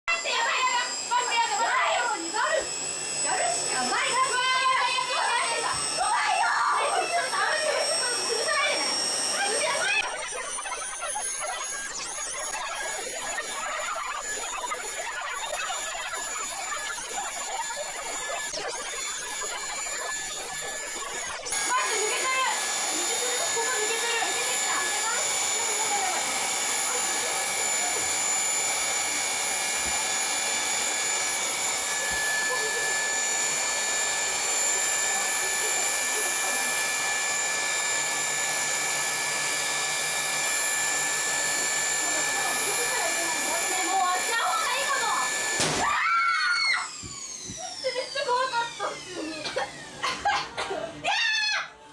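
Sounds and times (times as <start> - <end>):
electric air blower whining: 0.0 - 51.1.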